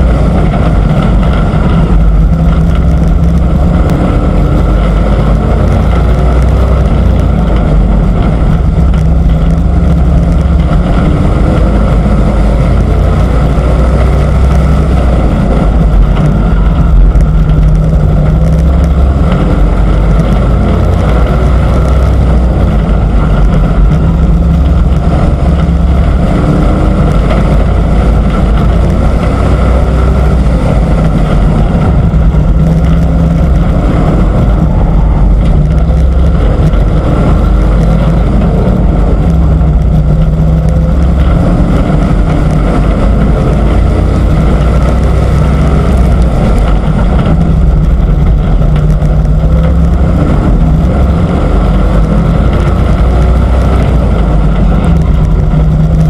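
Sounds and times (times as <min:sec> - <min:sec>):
race truck engine running hard: 0:00.0 - 0:56.0.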